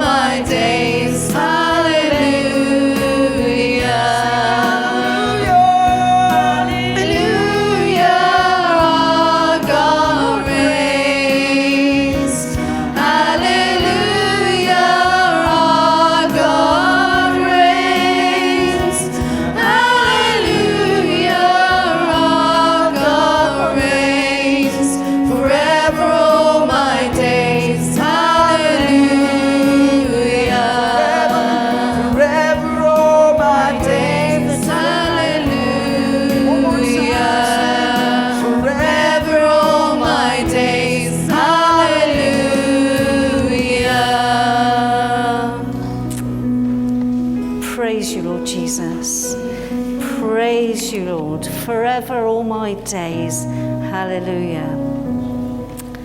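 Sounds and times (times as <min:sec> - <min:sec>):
many voices singing together: 0:00.0 - 0:46.2
instrumental accompaniment: 0:00.0 - 0:56.0.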